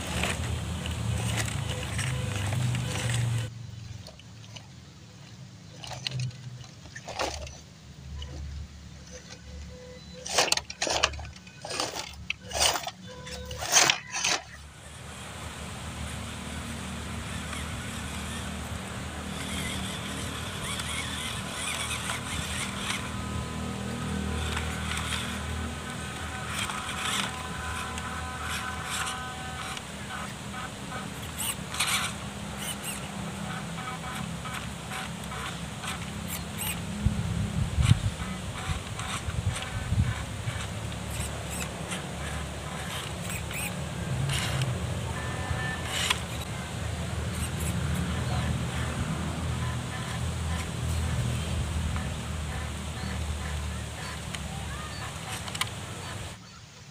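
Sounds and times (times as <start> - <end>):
small electric motor whirring: 0.0 - 3.5, 9.0 - 56.4
tyres scrabbling in dirt: 0.0 - 56.9.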